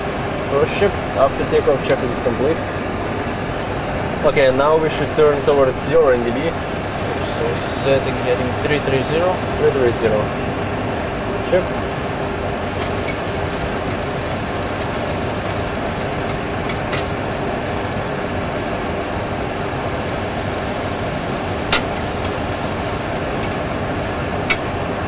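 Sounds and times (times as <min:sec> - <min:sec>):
airflow and engine noise: 0:00.0 - 0:25.0.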